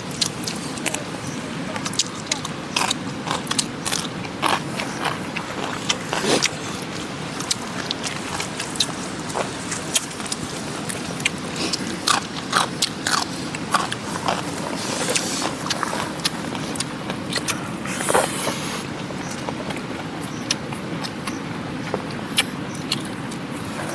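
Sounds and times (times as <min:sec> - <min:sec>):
chewing crunchy food: 0:00.0 - 0:23.9.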